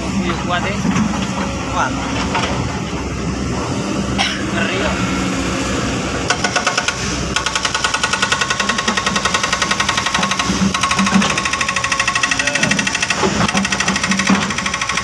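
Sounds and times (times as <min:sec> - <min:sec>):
diesel machinery clattering: 0:00.0 - 0:15.0.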